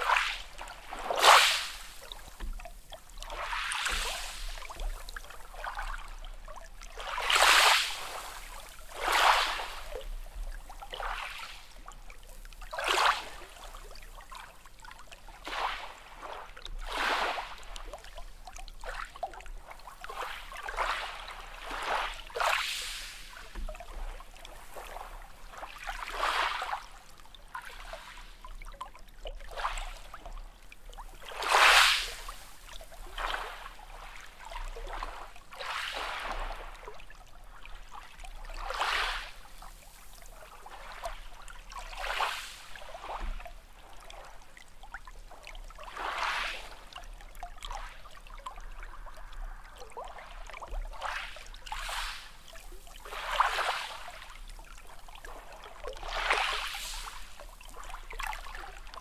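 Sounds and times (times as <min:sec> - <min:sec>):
small waves splashing: 0:00.0 - 0:59.0.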